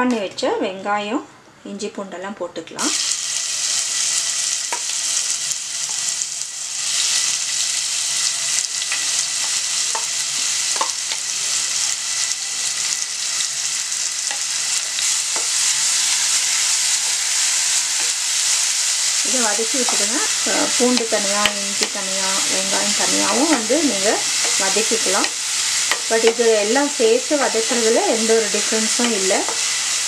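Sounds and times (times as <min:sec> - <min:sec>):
vegetables sizzling in hot oil: 0:02.8 - 0:30.0.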